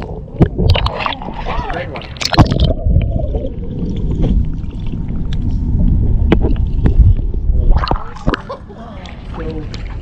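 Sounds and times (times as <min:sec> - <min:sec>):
muffled underwater rumble and gurgle: 0:00.0 - 0:10.0
water splashing: 0:00.0 - 0:10.0.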